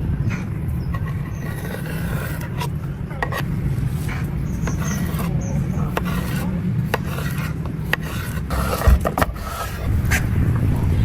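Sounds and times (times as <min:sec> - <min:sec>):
rasping kitchen scraping: 0:00.8 - 0:10.4.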